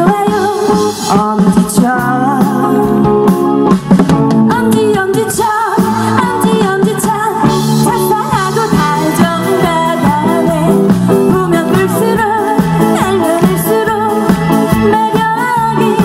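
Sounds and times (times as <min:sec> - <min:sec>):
woman singing into a microphone: 0:00.0 - 0:03.4, 0:04.4 - 0:16.0
drum kit beat: 0:00.0 - 0:16.0
electric guitar: 0:00.0 - 0:16.0.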